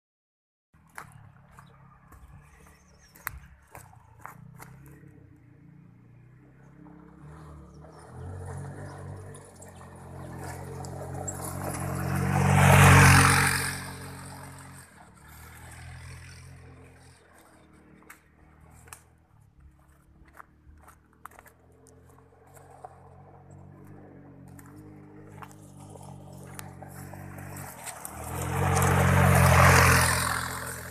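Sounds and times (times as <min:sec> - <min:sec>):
buggy engine passing: 0:00.8 - 0:30.9
tyres on gravel: 0:00.8 - 0:30.9.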